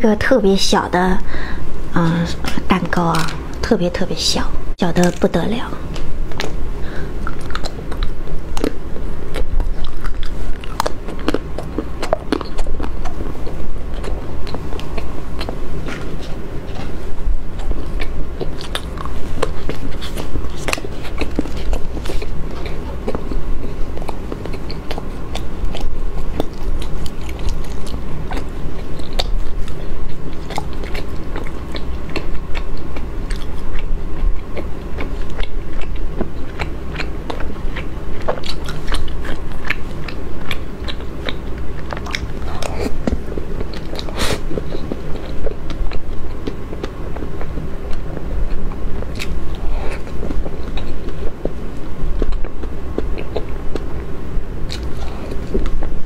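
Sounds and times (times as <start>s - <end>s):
wet chewing and lip smacks: 5.0s - 56.0s.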